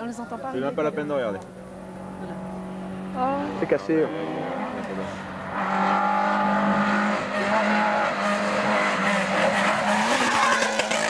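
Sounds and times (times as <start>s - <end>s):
rally car engine at high revs: 1.6s - 11.0s.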